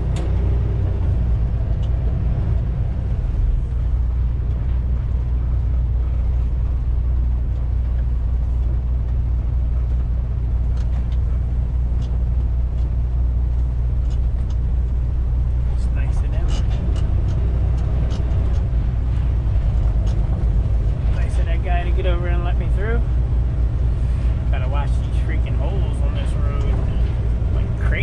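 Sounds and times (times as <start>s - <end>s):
truck engine and tyre rumble: 0.0s - 28.0s.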